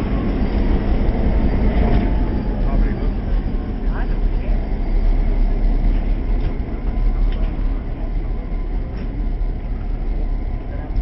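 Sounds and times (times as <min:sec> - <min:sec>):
diesel locomotive rumble: 0:00.0 - 0:11.0.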